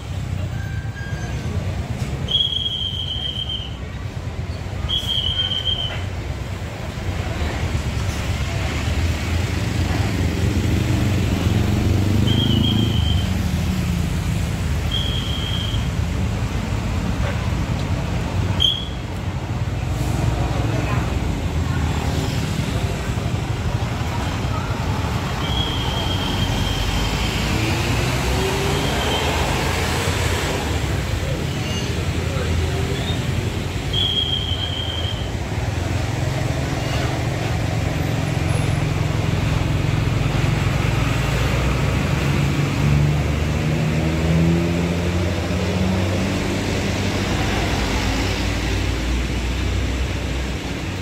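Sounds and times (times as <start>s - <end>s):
diesel bus engine rumbling: 0.0s - 51.0s.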